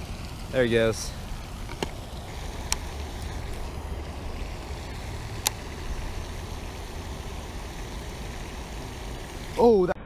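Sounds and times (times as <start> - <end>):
water: 0.0 - 9.9
wind: 0.0 - 10.0.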